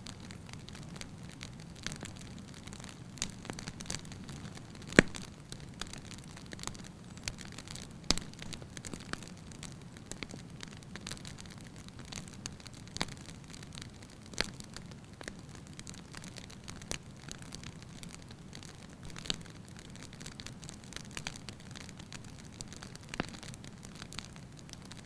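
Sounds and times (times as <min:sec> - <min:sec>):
low steady fire hiss: 0:00.0 - 0:25.0
wood fire crackling and popping: 0:00.0 - 0:25.0.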